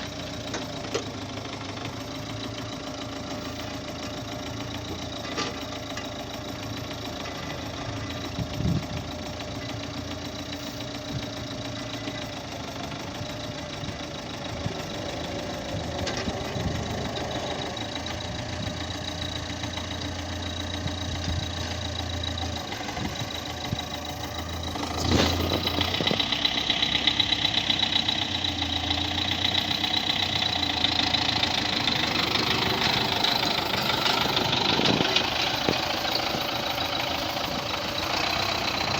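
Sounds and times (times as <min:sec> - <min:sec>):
engine knock: 0:00.0 - 0:38.9
tractor diesel engine clattering: 0:00.0 - 0:38.9.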